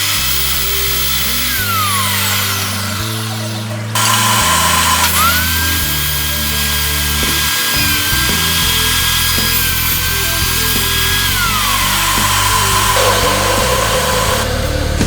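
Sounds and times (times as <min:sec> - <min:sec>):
electronic music: 0:00.0 - 0:15.0
power tool motor whining: 0:00.0 - 0:15.0.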